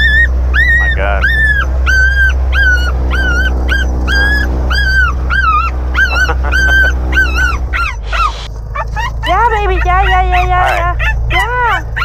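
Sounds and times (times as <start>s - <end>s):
aircraft engine hum: 0.0s - 12.0s
puppy whining: 0.0s - 12.0s.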